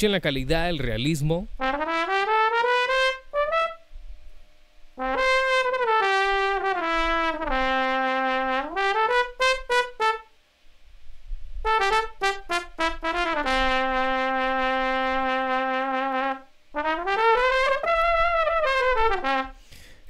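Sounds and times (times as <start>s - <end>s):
trombone melody: 1.5s - 4.0s, 5.0s - 10.4s, 11.6s - 19.9s.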